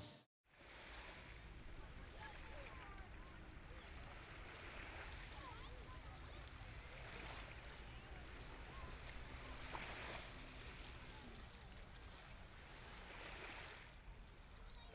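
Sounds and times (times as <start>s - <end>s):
soft surf: 0.0s - 14.9s.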